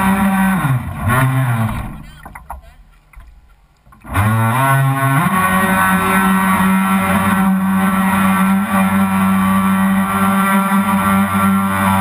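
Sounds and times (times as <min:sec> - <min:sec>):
model boat motor whining: 0:00.0 - 0:02.8, 0:04.0 - 0:12.0.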